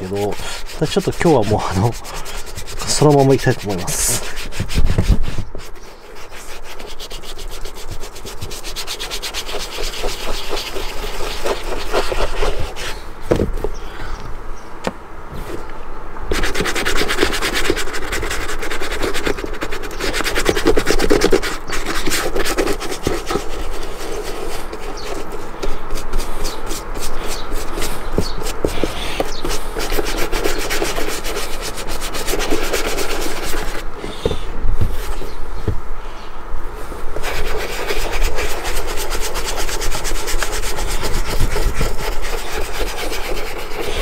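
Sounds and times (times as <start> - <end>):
cloth rubbing leather boot: 0.0 - 13.7, 16.3 - 35.4, 37.2 - 44.0.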